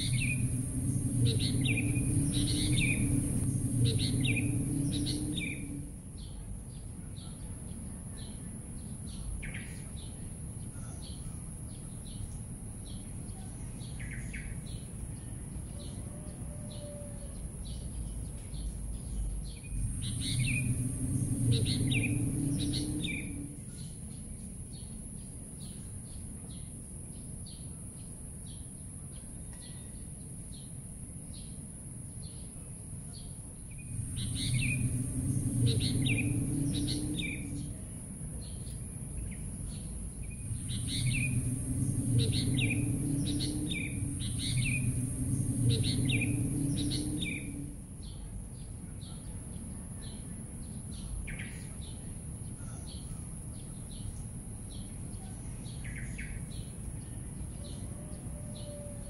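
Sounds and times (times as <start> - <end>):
small birds chirping: 0.0 - 16.0, 17.4 - 31.6, 32.2 - 57.9
constant high hiss: 0.0 - 59.0.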